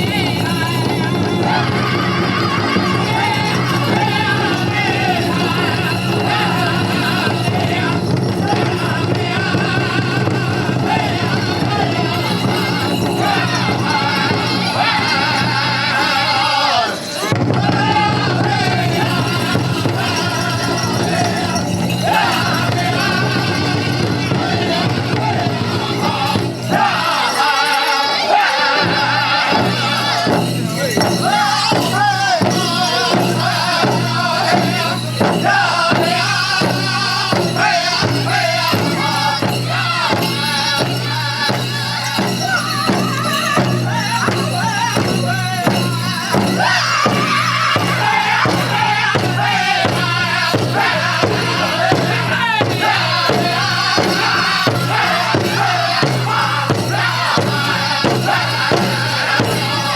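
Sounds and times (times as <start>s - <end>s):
steady beat on a large drum: 0.0s - 16.1s, 17.3s - 26.9s, 28.9s - 59.9s
group singing in high voices: 0.0s - 59.9s.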